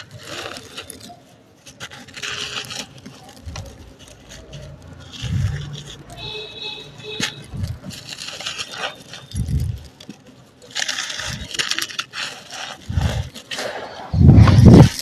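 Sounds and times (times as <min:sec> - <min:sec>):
dry texture crunching and crumbling: 0:00.0 - 0:15.0.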